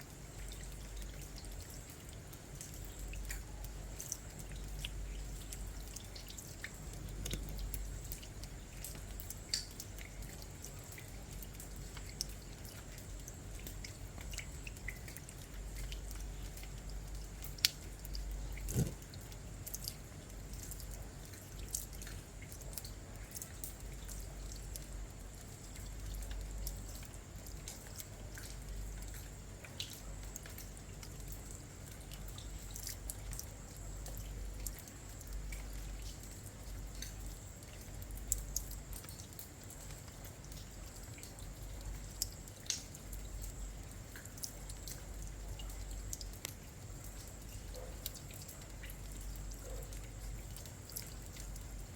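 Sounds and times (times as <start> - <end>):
drips and splashes: 0.0 - 51.9
rain falling: 0.0 - 51.9.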